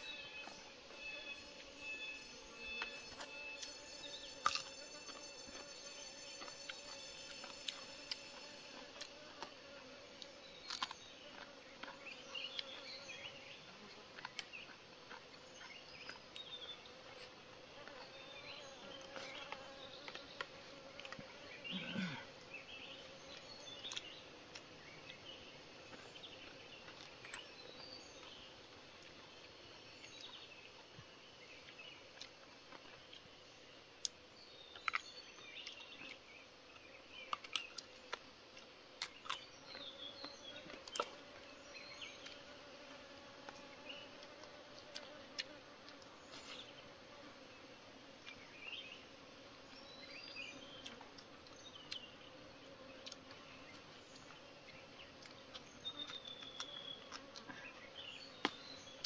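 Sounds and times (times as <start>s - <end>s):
faint insect buzz: 0.0s - 59.0s.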